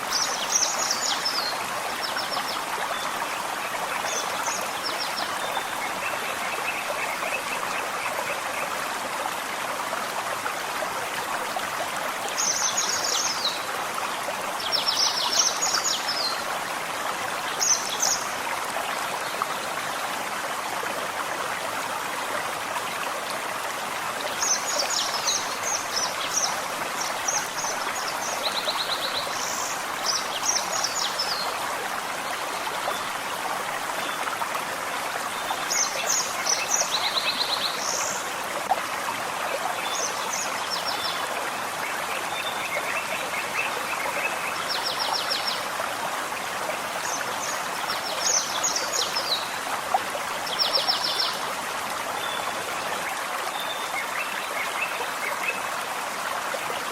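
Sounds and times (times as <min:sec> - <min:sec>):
stream running over stones: 0:00.0 - 0:56.9.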